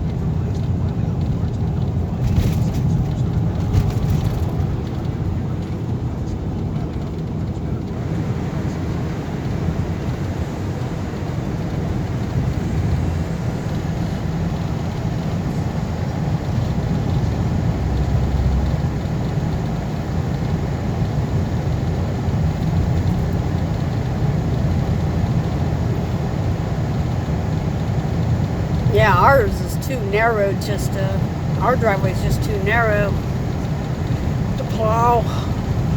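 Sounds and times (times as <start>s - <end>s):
vehicle engine and road rumble: 0.0s - 35.9s.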